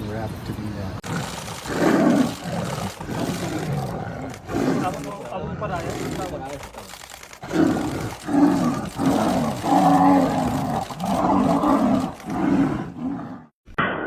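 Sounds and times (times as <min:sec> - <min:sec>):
large animal growling and roaring: 0:01.0 - 0:13.5.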